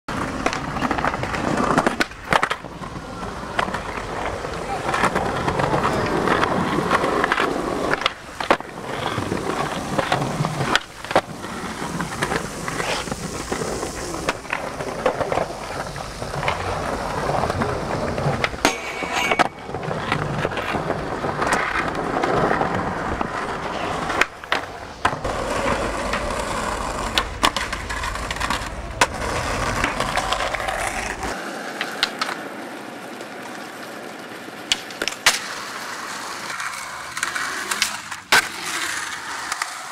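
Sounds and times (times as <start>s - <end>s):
skateboard popping and landing: 0.1s - 39.9s
skateboard wheels rolling on concrete: 0.1s - 39.9s.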